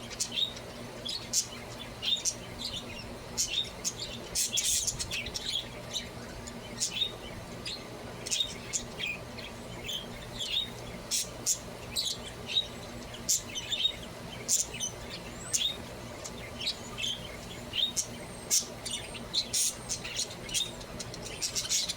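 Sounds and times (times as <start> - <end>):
budgerigars chirping: 0.0 - 21.9.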